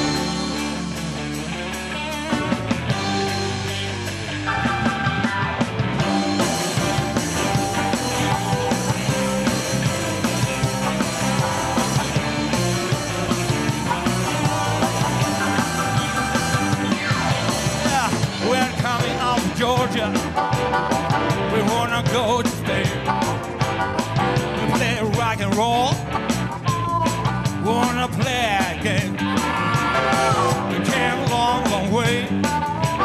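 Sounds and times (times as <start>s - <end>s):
bass guitar: 0.0s - 33.0s
drums: 0.0s - 33.0s
electric guitar: 0.0s - 33.0s
keyboard: 0.0s - 33.0s.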